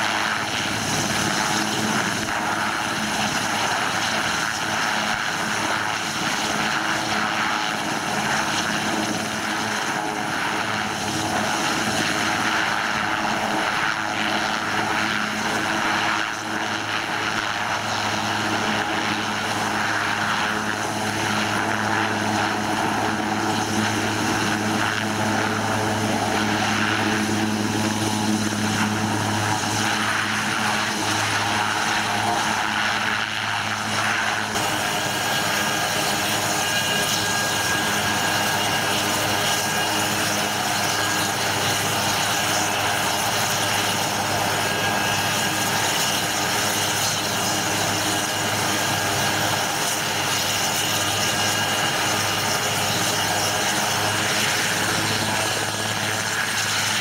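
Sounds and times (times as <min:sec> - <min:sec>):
helicopter rotor drone: 0:00.0 - 0:57.0
helicopter turbine whine: 0:00.0 - 0:57.0.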